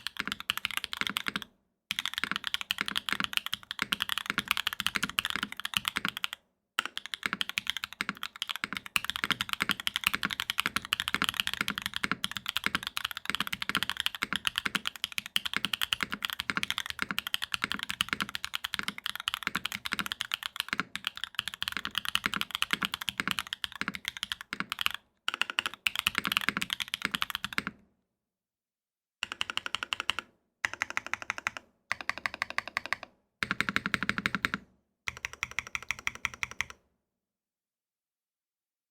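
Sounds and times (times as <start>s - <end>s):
rapid typing on mechanical keyboard: 0.0s - 27.8s, 29.2s - 36.8s.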